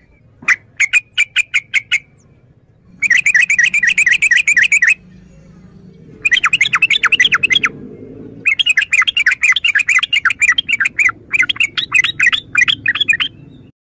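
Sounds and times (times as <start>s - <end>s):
bulbul singing: 0.0s - 13.7s.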